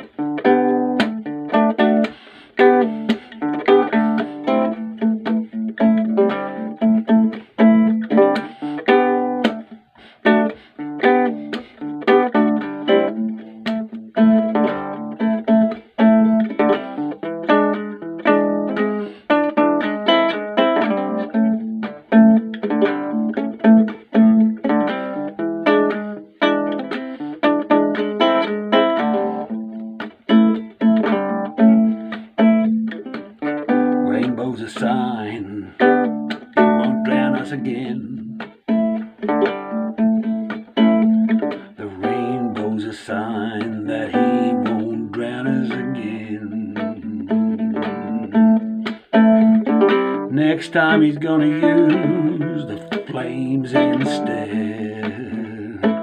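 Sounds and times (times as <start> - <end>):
nylon-string guitar strummed and plucked: 0.0 - 56.0.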